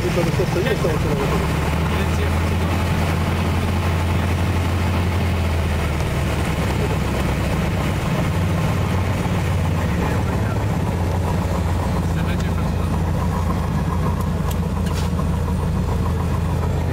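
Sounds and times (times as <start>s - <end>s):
aircraft engine and propeller droning: 0.0s - 16.9s.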